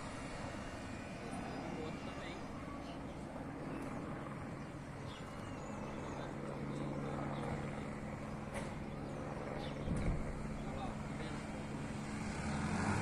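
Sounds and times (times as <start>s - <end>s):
distant helicopter droning: 0.0s - 13.0s.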